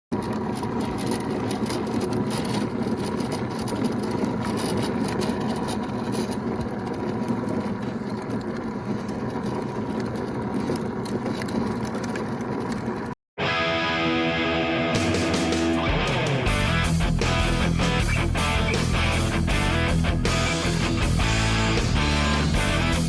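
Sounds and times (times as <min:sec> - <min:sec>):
lawn mower engine running: 0:00.1 - 0:13.1, 0:15.0 - 0:23.0.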